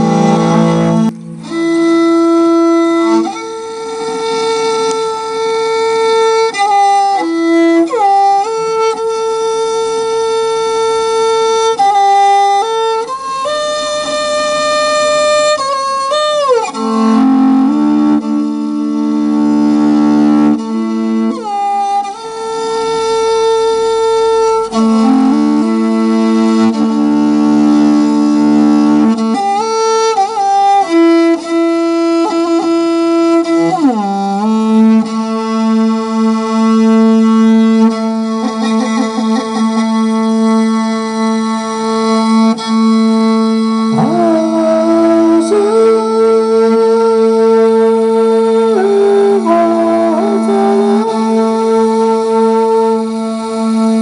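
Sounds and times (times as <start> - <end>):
bowed fiddle sliding notes: 0.0 - 54.0.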